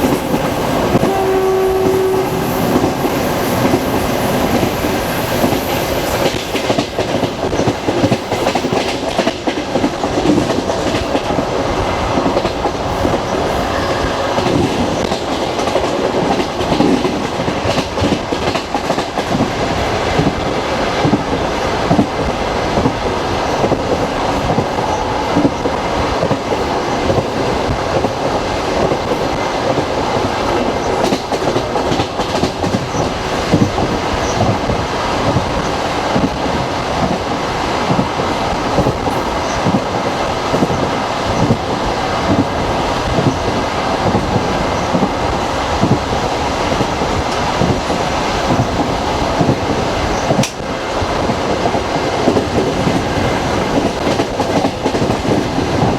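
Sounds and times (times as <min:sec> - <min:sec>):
clickety-clack of rail joints: 0:00.0 - 0:55.9
train wheels rumbling: 0:00.0 - 0:55.9.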